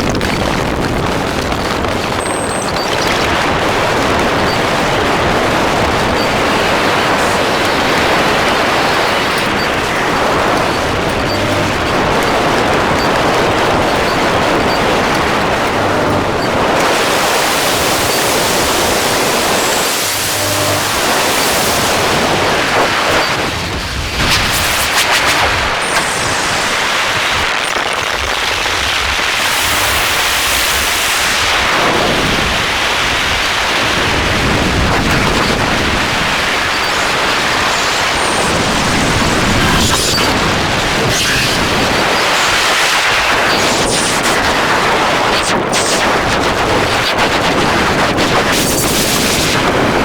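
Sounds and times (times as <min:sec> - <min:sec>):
harsh noise music static: 0:00.0 - 0:50.0.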